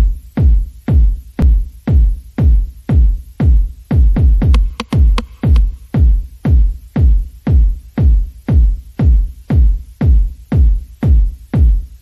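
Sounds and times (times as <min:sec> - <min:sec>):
electronic music: 0:00.0 - 0:12.0
punchy kick drum: 0:00.0 - 0:12.0.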